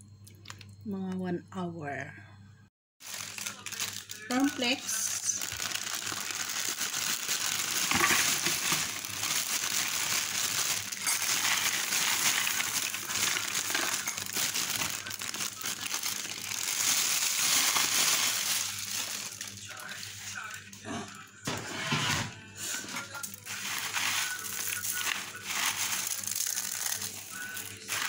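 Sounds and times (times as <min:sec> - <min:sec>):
flakes rustling in bag: 0:03.0 - 0:20.6, 0:22.7 - 0:28.0
plastic bag crinkling: 0:03.0 - 0:20.8, 0:22.8 - 0:28.0.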